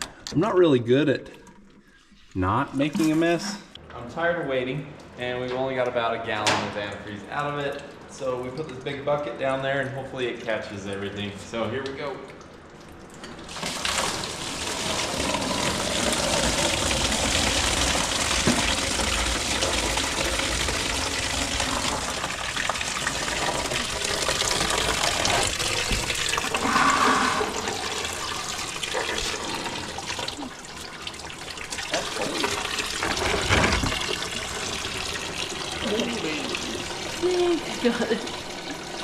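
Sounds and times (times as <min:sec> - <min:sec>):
coolant gushing into bucket: 0:06.2 - 0:39.0.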